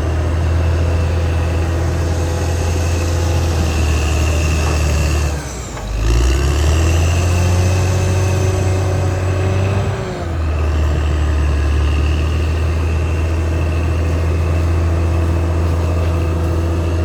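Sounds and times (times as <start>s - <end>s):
bulldozer diesel engine running: 0.0s - 17.0s
high engine whine: 0.0s - 17.0s.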